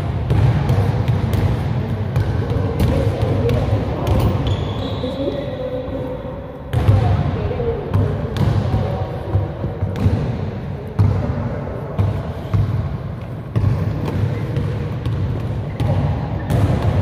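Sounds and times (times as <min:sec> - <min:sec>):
basketball bouncing in gym: 0:00.0 - 0:05.6, 0:06.7 - 0:17.0.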